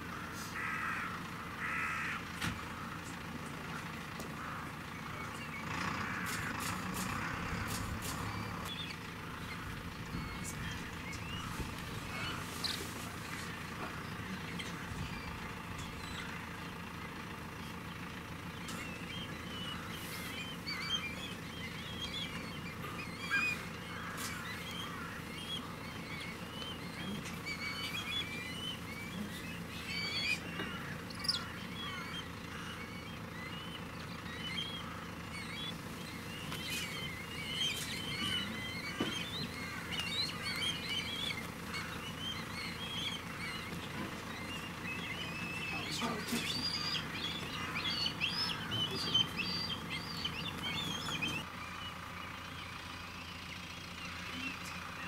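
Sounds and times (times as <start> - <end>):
birds chirping and calling: 0.0 - 55.0
low engine hum: 0.0 - 55.0.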